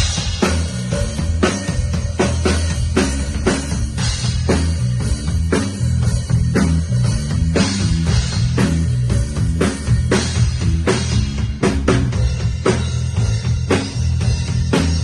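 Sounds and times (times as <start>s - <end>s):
backing track bass and guitar: 0.0s - 15.0s
drum kit rock beat: 0.0s - 15.0s.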